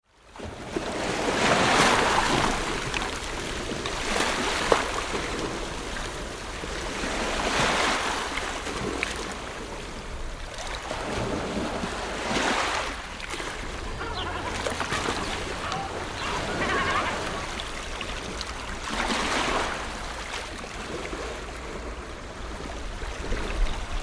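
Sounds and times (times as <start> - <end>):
ocean waves breaking on beach: 0.3 - 24.0.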